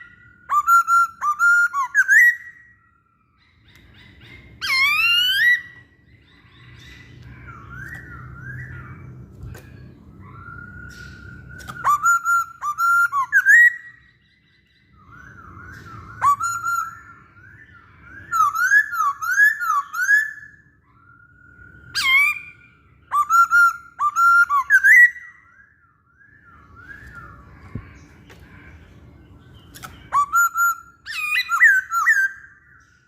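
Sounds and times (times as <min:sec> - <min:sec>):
bird whistling song: 0:00.0 - 0:33.0.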